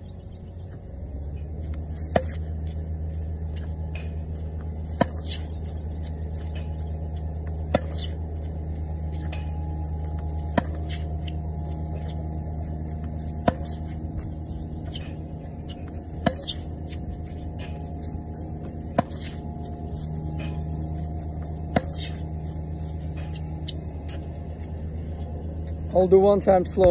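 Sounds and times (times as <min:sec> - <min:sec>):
steady low hum: 0:00.0 - 0:26.9
racket hitting tennis ball: 0:01.6 - 0:24.2.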